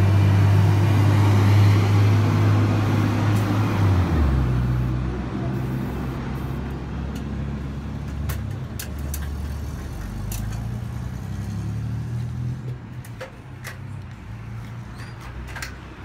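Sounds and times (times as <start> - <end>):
motor vehicle rumbling: 0.0 - 16.0.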